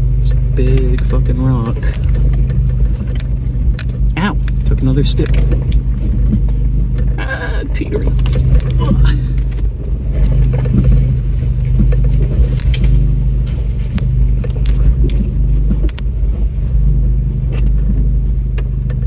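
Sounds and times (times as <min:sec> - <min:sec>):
knocks and rattles of loose items: 0:00.0 - 0:19.0
truck engine running at low speed: 0:00.0 - 0:19.0.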